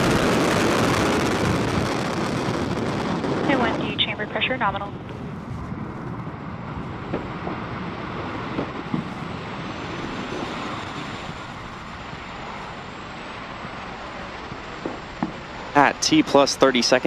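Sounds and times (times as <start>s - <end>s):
rocket engines rumbling: 0.0s - 17.0s.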